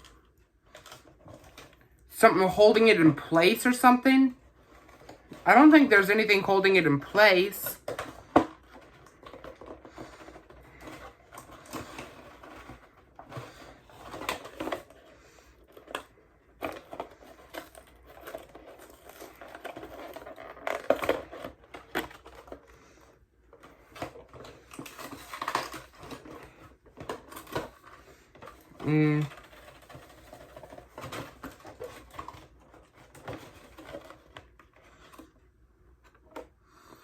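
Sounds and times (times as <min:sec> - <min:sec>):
packaging being handled: 0:00.0 - 0:36.6.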